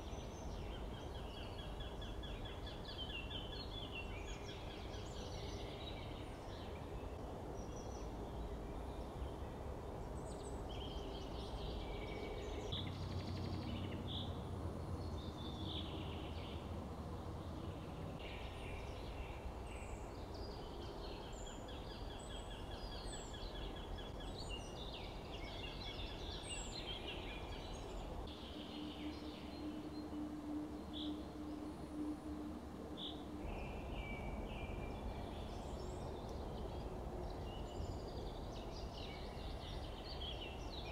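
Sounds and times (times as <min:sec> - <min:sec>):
background hiss: 0:00.0 - 0:40.9
songbirds singing: 0:00.0 - 0:40.9.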